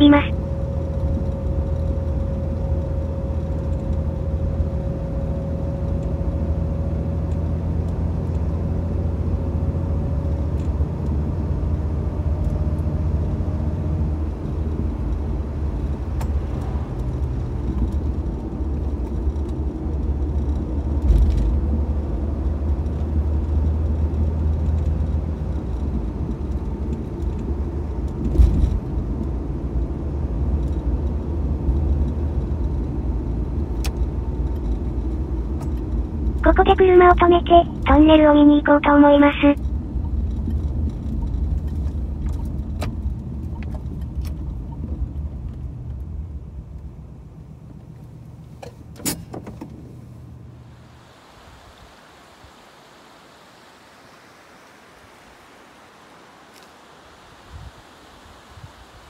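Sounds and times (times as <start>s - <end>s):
car engine and road rumble: 0.0s - 50.8s.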